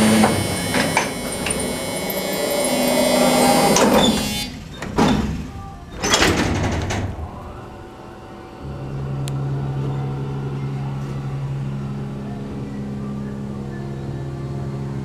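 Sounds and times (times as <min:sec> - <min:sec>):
elevator pump motor humming: 0:00.0 - 0:15.0.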